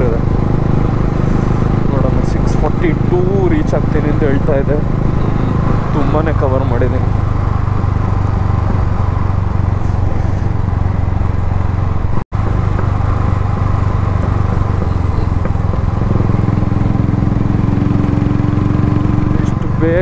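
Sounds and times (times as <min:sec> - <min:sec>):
wind rush over microphone: 0:00.0 - 0:19.7
motorcycle engine running: 0:00.0 - 0:20.0.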